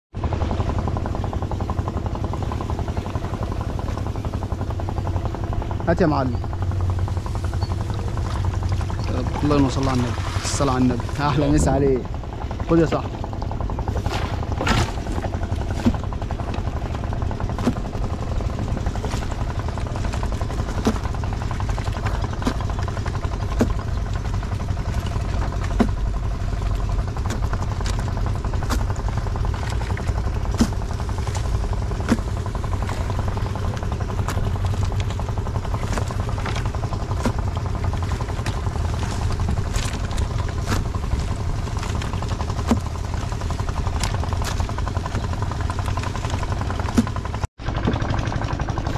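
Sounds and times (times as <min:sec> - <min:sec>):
small engine idling: 0:00.2 - 0:48.9.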